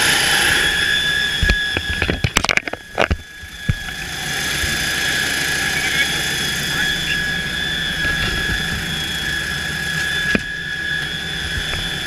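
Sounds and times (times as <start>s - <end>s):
helicopter turbine whine: 0.0s - 12.0s.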